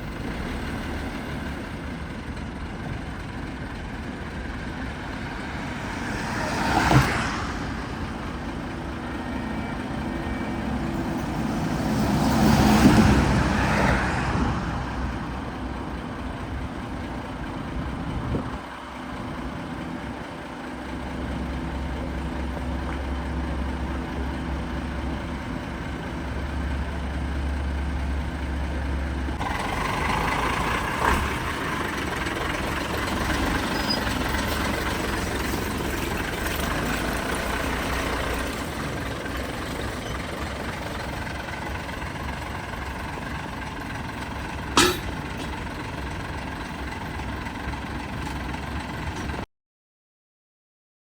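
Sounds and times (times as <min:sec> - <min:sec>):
diesel truck engine running: 0:00.0 - 0:49.4.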